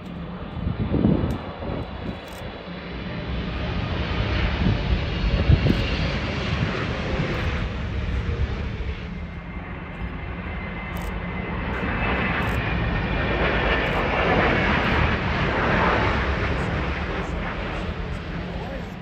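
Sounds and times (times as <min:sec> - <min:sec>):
jet engines roaring and whining: 0:00.0 - 0:19.0.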